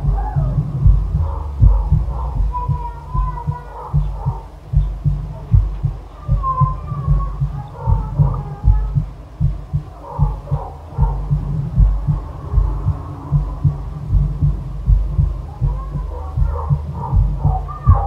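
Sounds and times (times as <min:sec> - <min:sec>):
deep low thudding pulses: 0:00.0 - 0:18.0.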